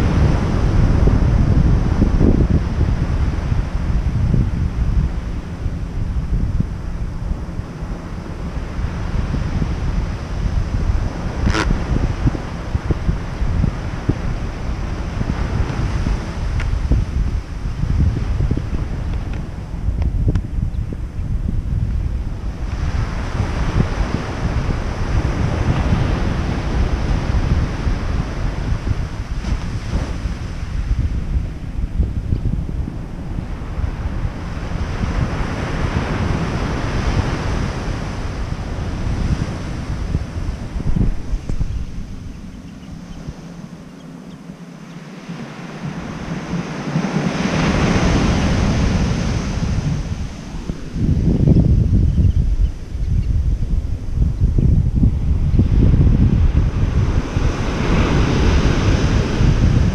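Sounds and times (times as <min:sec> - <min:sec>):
ocean surf washing onto beach: 0:00.0 - 0:59.9
wind buffeting microphone: 0:00.0 - 0:59.9.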